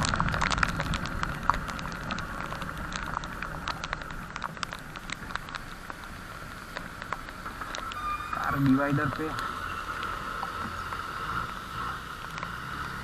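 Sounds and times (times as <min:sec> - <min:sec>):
rain hiss: 0:00.0 - 0:13.0
raindrops pattering: 0:00.0 - 0:13.0.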